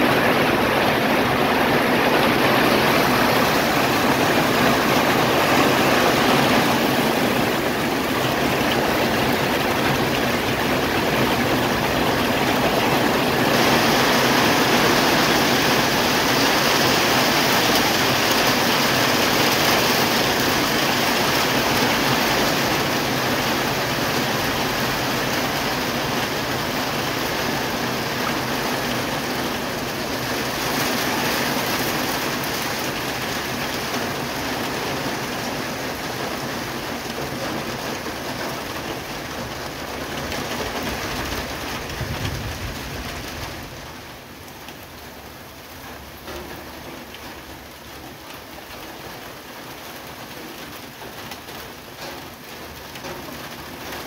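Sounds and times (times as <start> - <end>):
light rain on leaves: 0.0 - 54.0.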